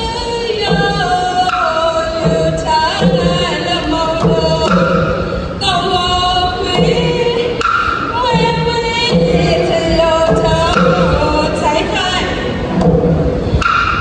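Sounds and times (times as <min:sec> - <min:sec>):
woman singing through a pa: 0:00.0 - 0:12.8.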